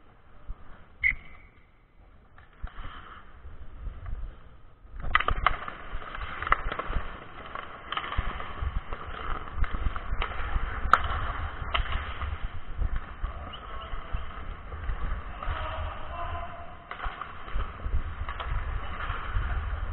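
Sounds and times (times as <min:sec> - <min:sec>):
hockey sticks and puck clacking: 0:00.0 - 0:19.9
skate blades scraping ice: 0:00.0 - 0:19.9.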